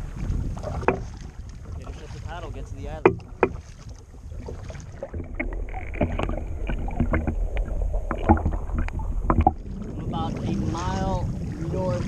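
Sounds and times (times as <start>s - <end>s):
paddle blades splashing in water: 0.0s - 12.0s
water washing along hull: 0.0s - 12.0s
wind rumble on microphone: 0.0s - 12.0s.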